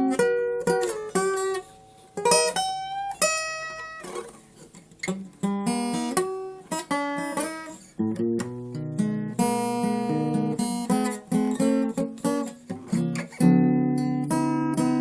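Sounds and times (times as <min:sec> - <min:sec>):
solo guitar playing: 0:00.0 - 0:15.0.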